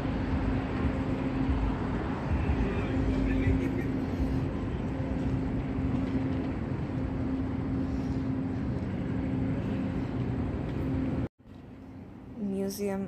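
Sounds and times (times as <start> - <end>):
constant low hum: 0.0 - 13.0
traffic running past: 0.0 - 13.0.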